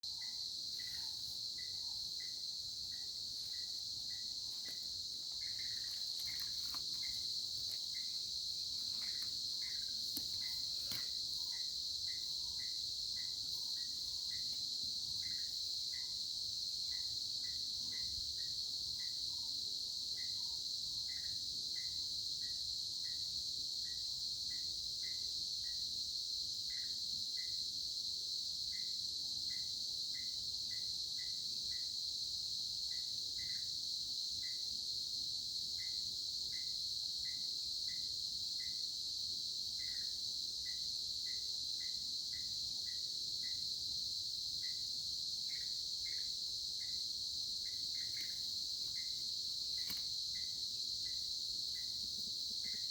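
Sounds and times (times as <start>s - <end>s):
insect chirps: 0.0s - 52.9s
insects trilling hum: 0.0s - 52.9s.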